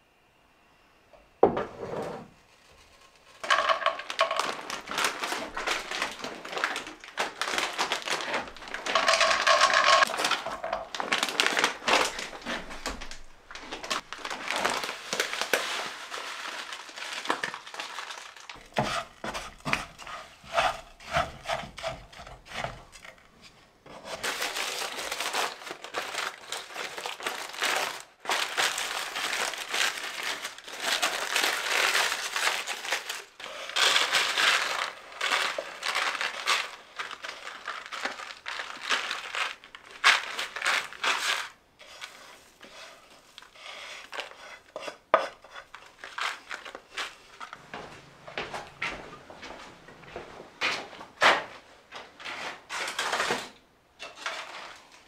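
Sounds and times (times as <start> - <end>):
granola rustling in a frying pan: 2.4 - 23.2, 23.9 - 47.6, 54.0 - 55.0.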